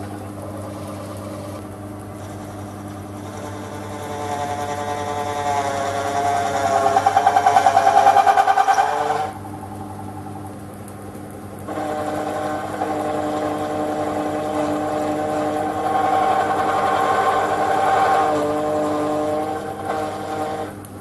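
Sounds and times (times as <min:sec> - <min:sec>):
metal lathe whining: 0:00.0 - 0:10.5, 0:11.7 - 0:20.9.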